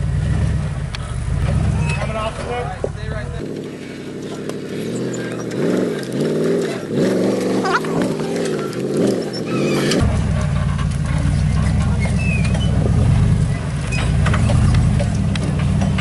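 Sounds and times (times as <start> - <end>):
pickup truck engine revving: 0.0 - 16.0.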